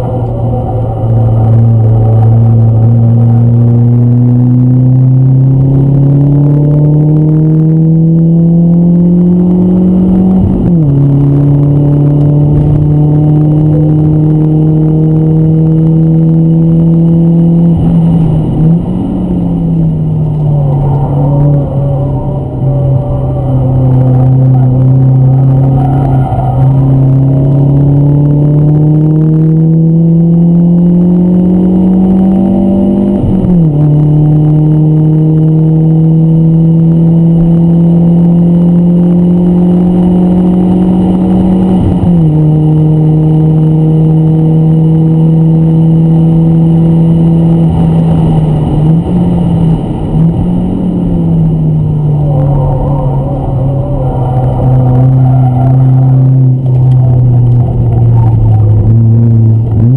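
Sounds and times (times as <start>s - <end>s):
car engine accelerating in cabin: 0.0s - 59.9s.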